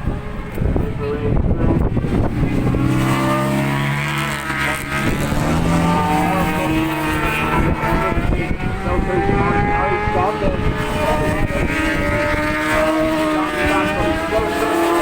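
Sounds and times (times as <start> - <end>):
racing motorcycles revving: 0.0 - 15.0
wind rumbling on microphone: 0.0 - 15.0.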